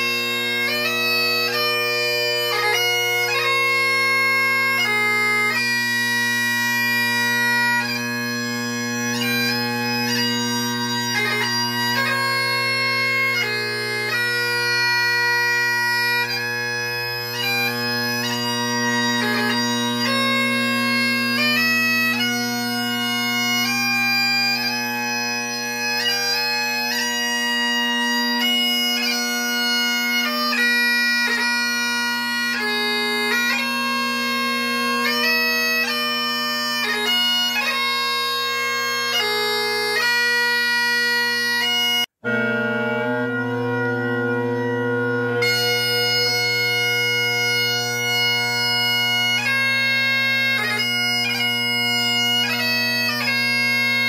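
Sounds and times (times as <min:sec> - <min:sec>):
bagpipe chanter melody: 0:00.0 - 0:54.0
bagpipe drones humming: 0:00.0 - 0:54.0.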